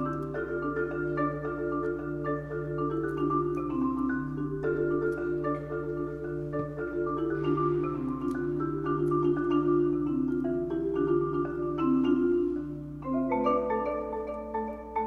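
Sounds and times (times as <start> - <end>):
marimba playing: 0.0 - 15.0.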